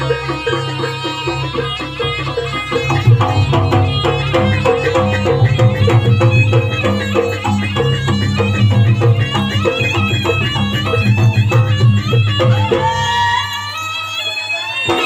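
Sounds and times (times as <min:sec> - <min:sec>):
steady drumming: 0:00.0 - 0:13.4
reedy wind instrument melody: 0:00.0 - 0:15.0.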